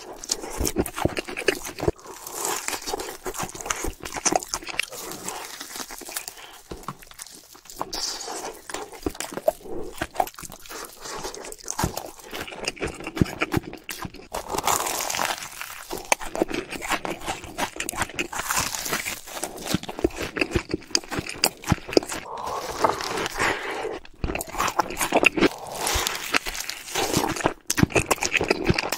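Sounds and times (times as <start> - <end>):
crunching and chewing food: 0.0 - 28.9.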